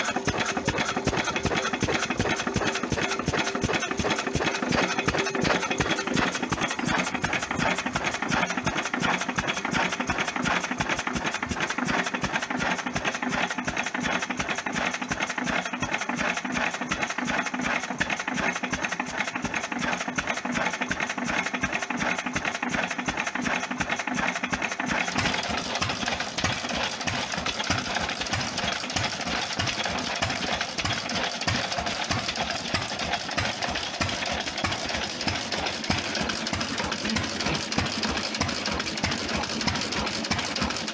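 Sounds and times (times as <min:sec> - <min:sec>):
second stationary engine running: 0:00.0 - 0:40.9
stationary engine running: 0:00.0 - 0:40.9.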